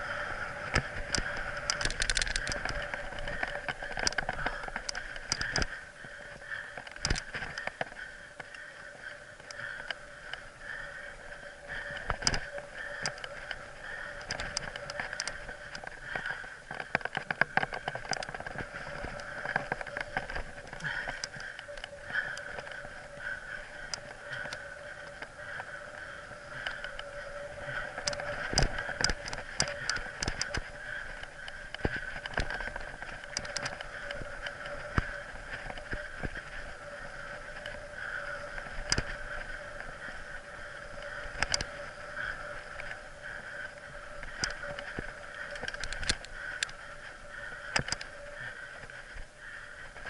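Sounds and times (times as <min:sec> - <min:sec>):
bike tyres and drivetrain whirring: 0:00.0 - 0:50.0.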